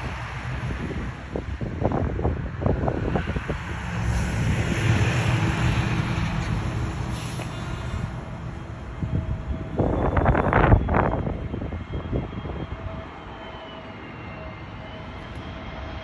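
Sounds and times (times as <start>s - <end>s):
wind buffeting microphone: 0.0s - 13.6s
jet engines rumbling: 0.0s - 16.0s.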